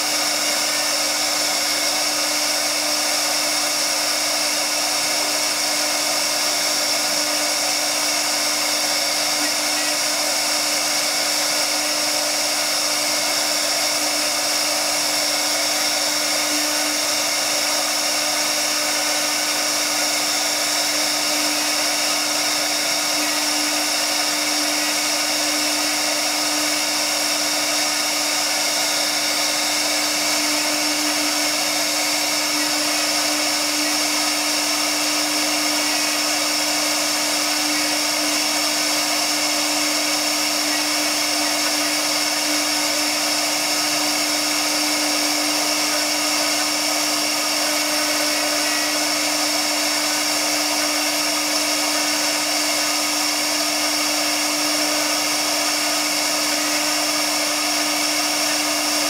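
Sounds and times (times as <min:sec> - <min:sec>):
router spindle whine: 0:00.0 - 0:59.0.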